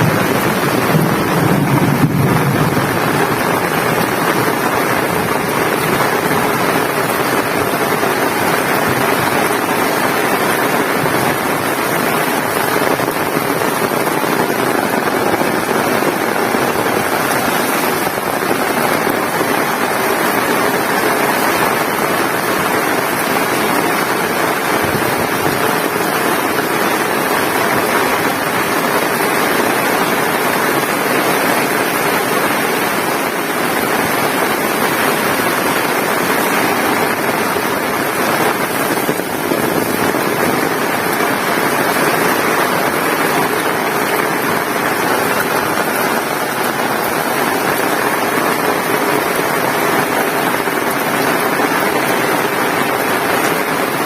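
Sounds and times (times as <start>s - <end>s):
heavy rain: 0.0s - 54.0s
wind rumble on microphone: 0.0s - 54.0s.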